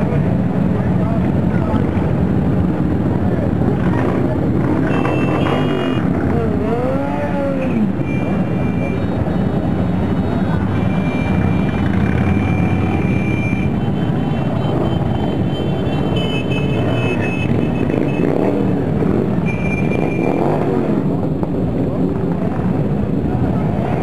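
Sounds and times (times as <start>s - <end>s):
motorcycle engines rumbling: 0.0s - 24.0s.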